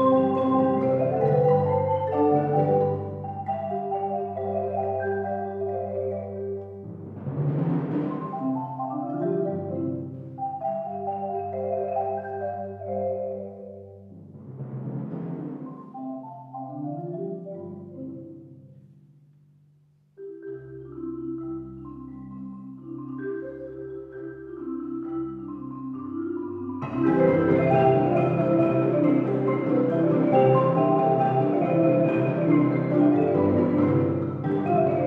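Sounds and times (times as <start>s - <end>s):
marimba ensemble playing: 0.0s - 18.8s, 20.2s - 35.0s.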